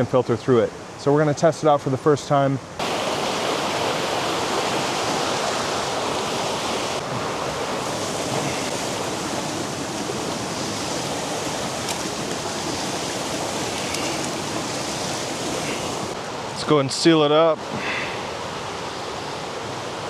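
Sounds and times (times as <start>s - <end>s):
stream rushing: 2.7s - 20.0s.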